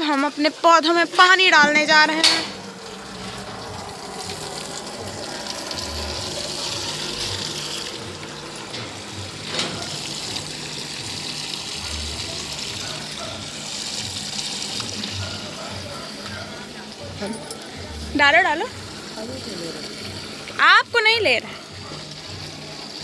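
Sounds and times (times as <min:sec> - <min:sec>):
water pouring: 0:00.0 - 0:23.0.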